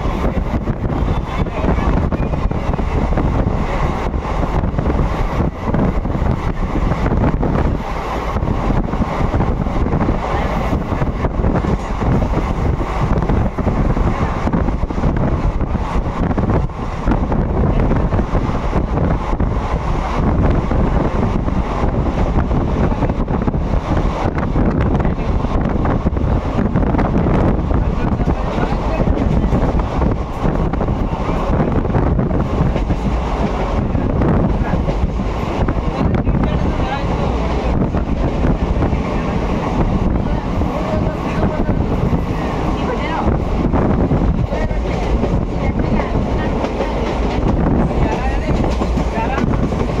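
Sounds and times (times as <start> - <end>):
train rumbling at speed: 0.0 - 50.0
wind buffeting microphone: 0.0 - 50.0.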